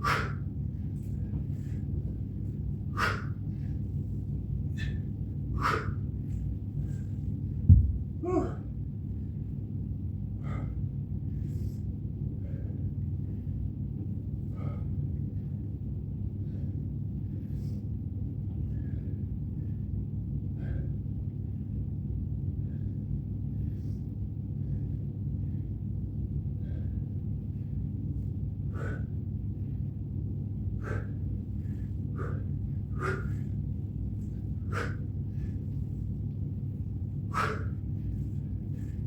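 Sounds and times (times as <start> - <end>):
person breathing hard: 0.0 - 9.5, 10.4 - 13.8, 14.4 - 15.8, 18.6 - 21.3, 22.5 - 28.0, 28.6 - 30.0, 30.6 - 39.0
low rumble: 0.0 - 39.0.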